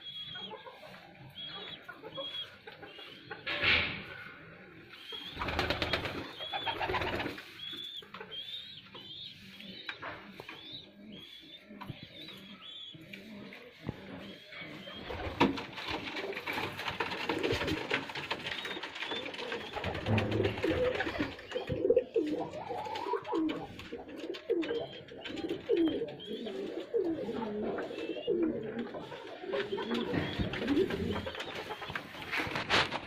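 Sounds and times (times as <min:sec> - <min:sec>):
pigeons cooing: 0:00.0 - 0:32.9.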